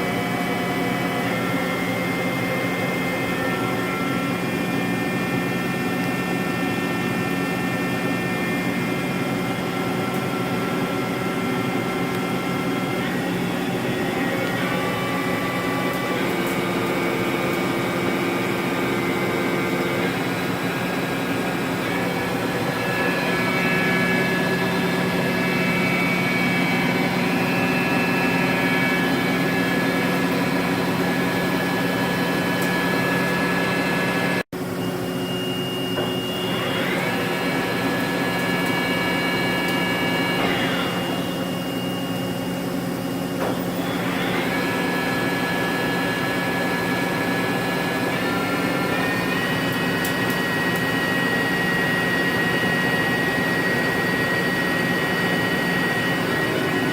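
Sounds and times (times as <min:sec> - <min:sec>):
lathe spindle whine: 0:00.0 - 0:56.9.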